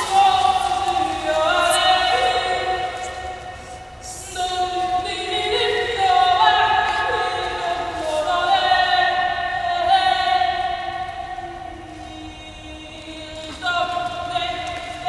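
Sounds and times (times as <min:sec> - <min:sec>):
choir singing a cappella: 0:00.0 - 0:12.3.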